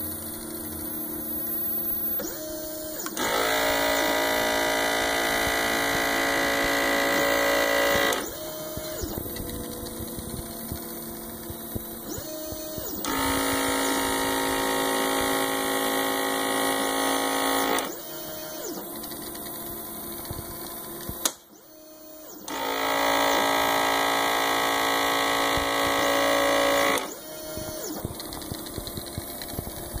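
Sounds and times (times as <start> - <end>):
stepper motors whining: 0.0 - 30.0
vacuum pump humming: 2.2 - 30.0.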